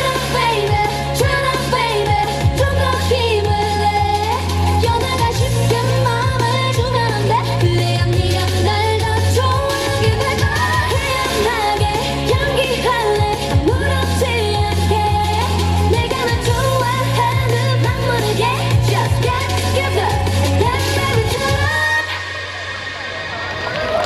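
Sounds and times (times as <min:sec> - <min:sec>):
heavy bass beat: 0:00.0 - 0:21.9
woman singing: 0:00.0 - 0:22.6.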